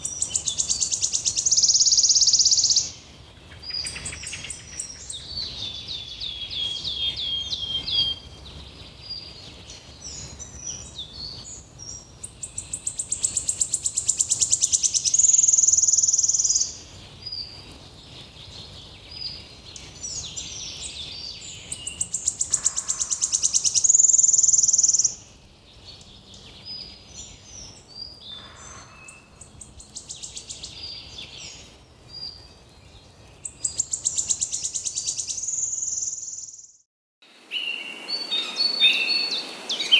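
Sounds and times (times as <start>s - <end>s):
bird trilling song: 0.0s - 32.6s, 33.2s - 36.8s, 37.5s - 39.9s
birds chirping: 0.0s - 36.6s, 37.5s - 39.9s.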